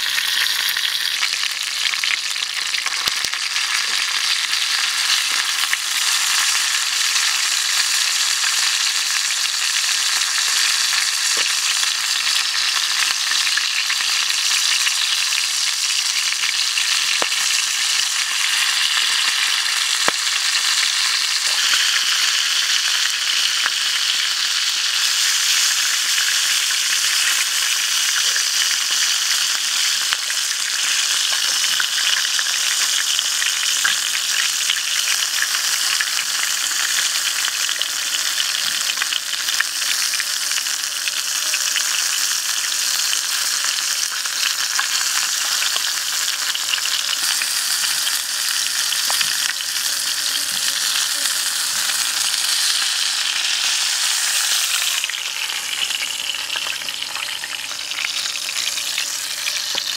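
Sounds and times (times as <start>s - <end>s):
oil sizzling in a pan: 0.0s - 59.9s.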